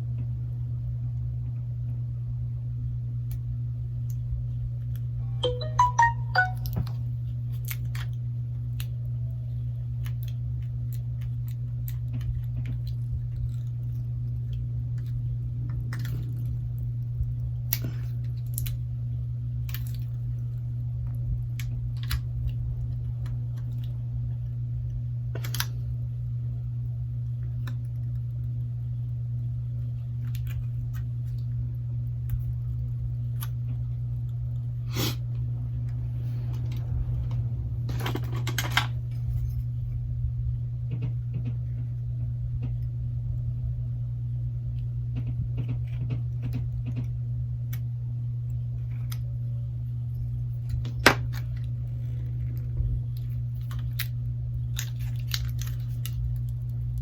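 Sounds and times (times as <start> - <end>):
steady low hum: 6.6 - 57.0.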